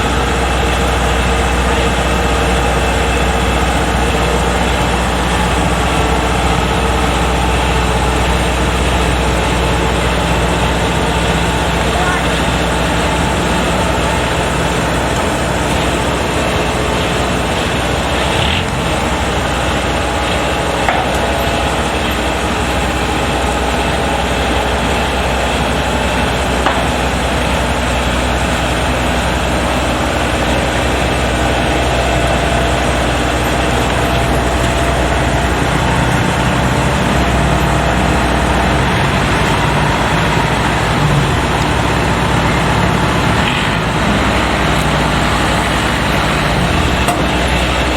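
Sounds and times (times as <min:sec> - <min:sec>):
combine harvester engine drone: 0:00.0 - 0:47.9.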